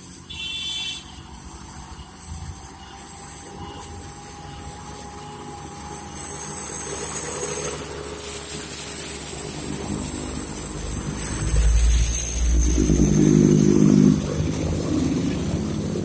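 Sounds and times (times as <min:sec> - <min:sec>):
high-pitched buzz: 0:00.1 - 0:16.0
truck engine running low: 0:01.2 - 0:16.0.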